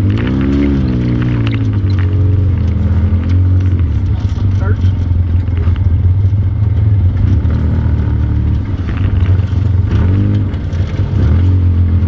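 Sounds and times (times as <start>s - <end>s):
quad bike engine revving: 0.0s - 5.8s, 6.8s - 12.0s.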